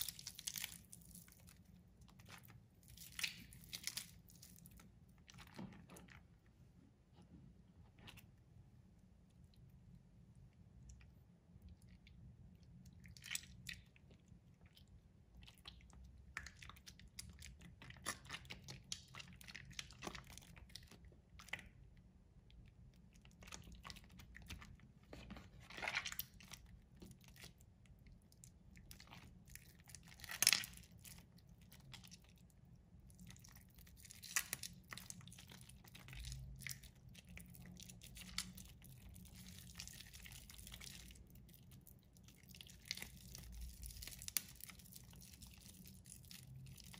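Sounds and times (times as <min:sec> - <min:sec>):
hands squeezing wet soap: 0:00.0 - 0:46.9.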